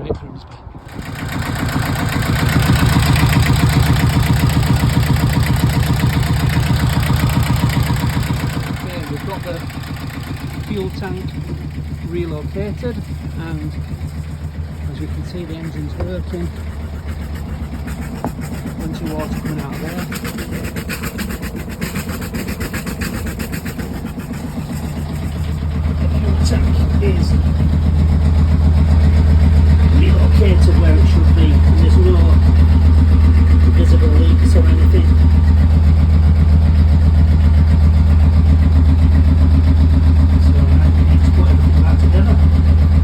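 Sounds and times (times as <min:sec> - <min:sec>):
diesel boat engine idling: 0:00.8 - 0:43.0
wet exhaust puffing water: 0:00.8 - 0:43.0.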